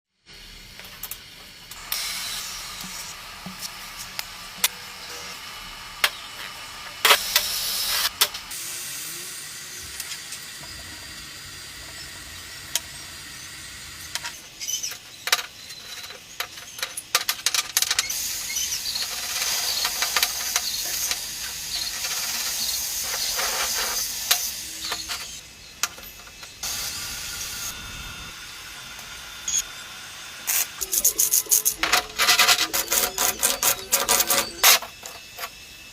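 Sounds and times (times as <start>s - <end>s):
welding arc hissing and crackling: 0.2s - 35.9s.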